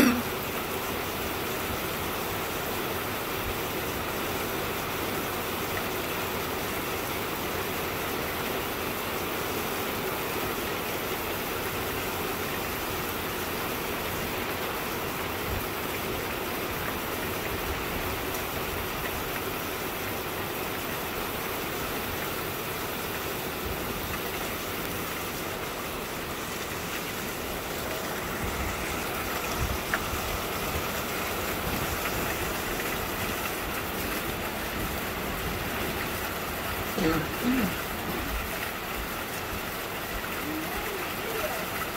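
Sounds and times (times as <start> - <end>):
rain on gravel and grass: 0.0 - 41.9.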